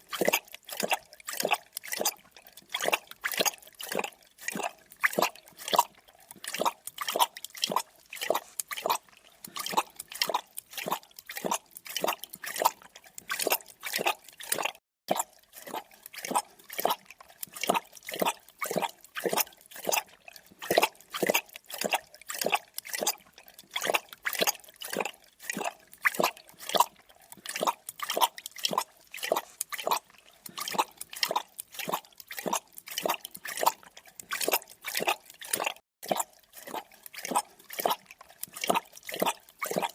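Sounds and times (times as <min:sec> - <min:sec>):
animal lapping liquid: 0:00.0 - 0:39.9.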